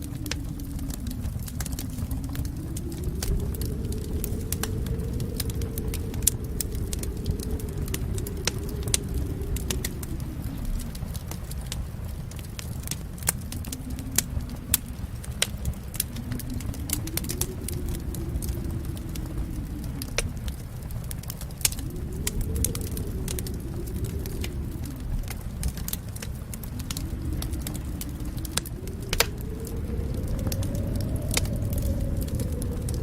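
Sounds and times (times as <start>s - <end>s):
low rumble of flames: 0.0s - 33.0s
wood fire crackling and popping: 0.0s - 33.0s.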